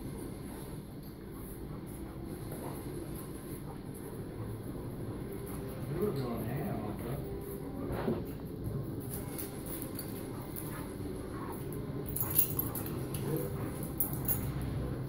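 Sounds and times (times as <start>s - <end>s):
dogs scuffling on tile floor: 0.0s - 14.9s.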